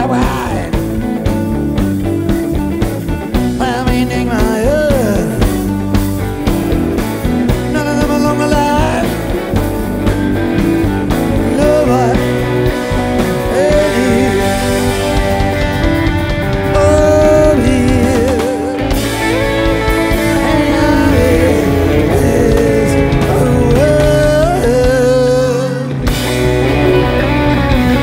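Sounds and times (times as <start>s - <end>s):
lead guitar bending notes: 0.0s - 28.0s
live rock band playing: 0.0s - 28.0s.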